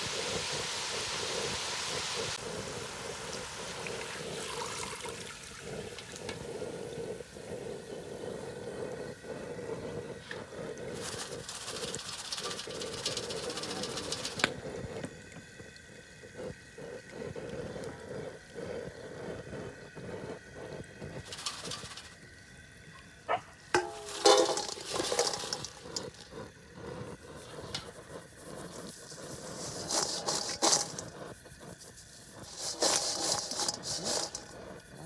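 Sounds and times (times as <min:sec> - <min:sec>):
fries sizzling in hot oil: 0:00.0 - 0:08.7, 0:10.1 - 0:19.0, 0:19.7 - 0:22.8, 0:23.6 - 0:35.0.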